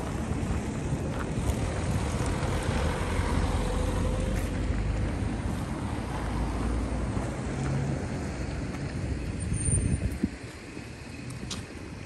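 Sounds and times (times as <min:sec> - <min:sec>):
cars driving past: 0:00.0 - 0:12.0
wind rumble on microphone: 0:00.0 - 0:12.0.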